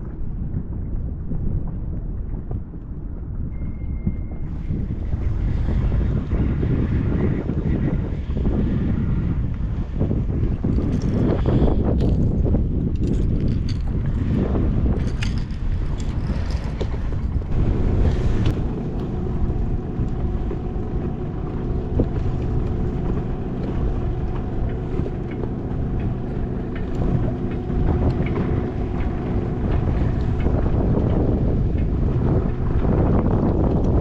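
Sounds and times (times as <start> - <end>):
wind buffeting microphone: 0.0 - 34.0
steady multi-tone hum: 3.6 - 13.3, 13.9 - 34.0.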